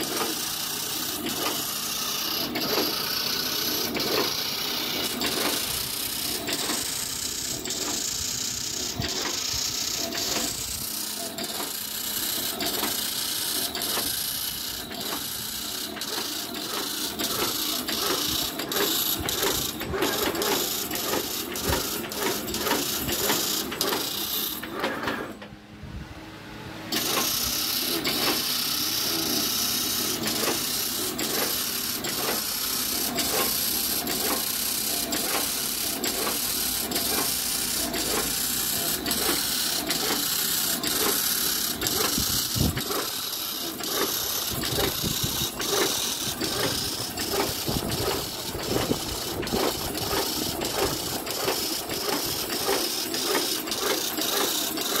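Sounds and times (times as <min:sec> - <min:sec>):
machine clacking rhythmically: 0:00.0 - 0:25.3, 0:26.9 - 0:55.0.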